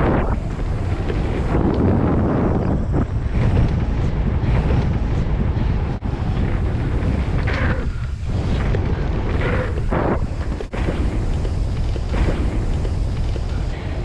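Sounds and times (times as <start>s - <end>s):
bike tyres on dirt trail: 0.0s - 14.0s
wind buffeting microphone: 0.0s - 14.0s.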